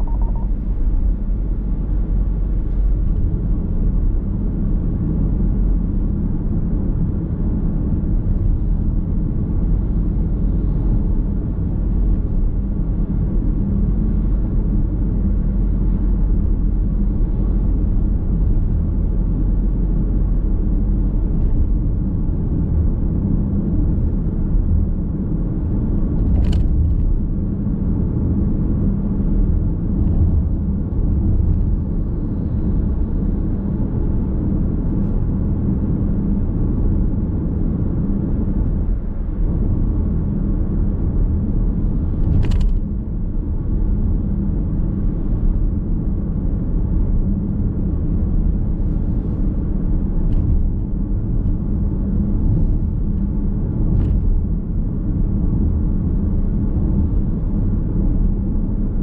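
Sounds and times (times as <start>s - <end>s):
tyre and road noise: 8.5s - 59.0s.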